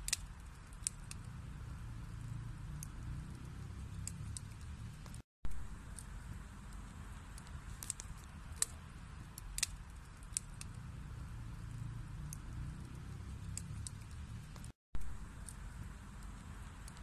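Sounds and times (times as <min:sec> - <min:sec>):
fire flames rumbling: 0:00.0 - 0:17.0
logs crackling and popping: 0:00.0 - 0:17.0.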